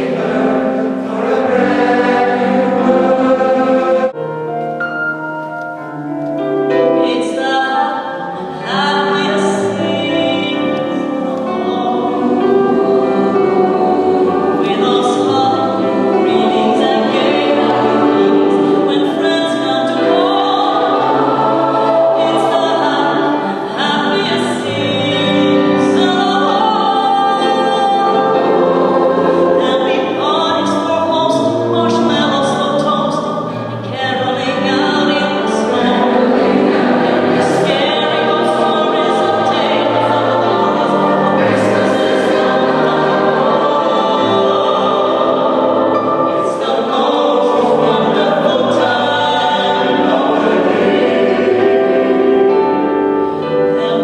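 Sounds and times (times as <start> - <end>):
mixed choir singing: 0.0 - 4.2, 7.1 - 54.0.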